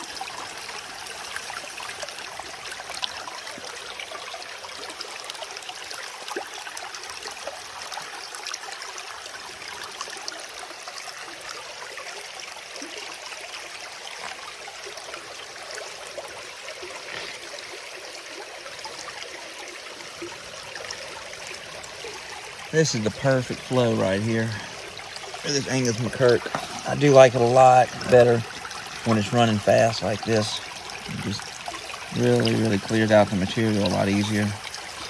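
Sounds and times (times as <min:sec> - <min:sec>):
water rushing with small splashes: 0:00.0 - 0:35.0.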